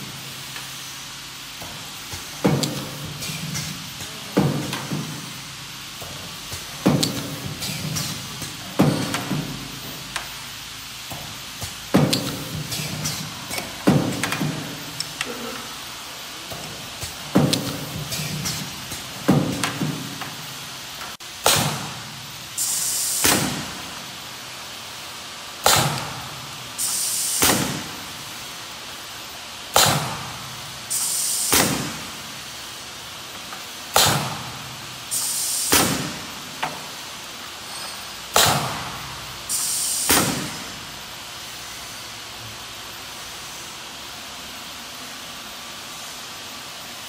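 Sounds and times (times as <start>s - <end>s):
compressed air hiss: 0.2s - 20.7s, 22.5s - 24.0s, 25.3s - 28.6s, 29.7s - 42.1s.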